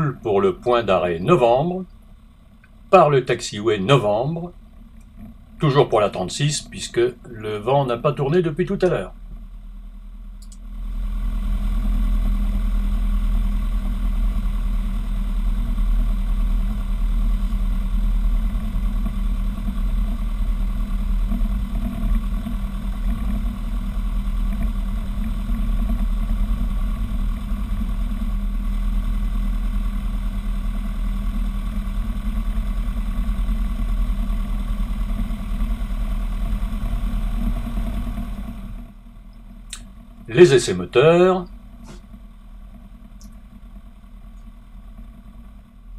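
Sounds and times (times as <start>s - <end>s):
light aircraft engine and propeller: 0.0s - 45.9s.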